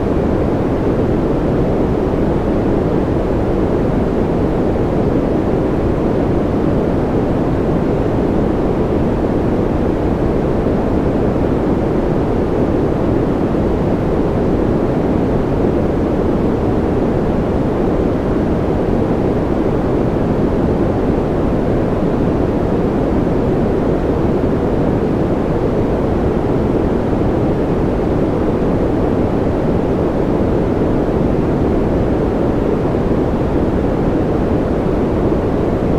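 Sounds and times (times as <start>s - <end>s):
deep white noise hiss: 0.0s - 35.9s.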